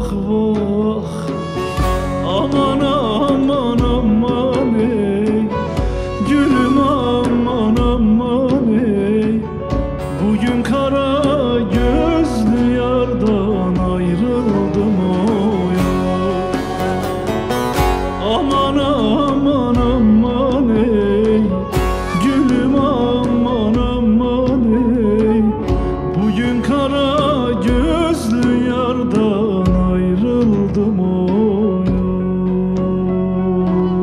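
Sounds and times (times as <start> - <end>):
hand drums: 0.0 - 34.0
lute picked and strummed: 0.0 - 34.0
violin: 0.0 - 34.0.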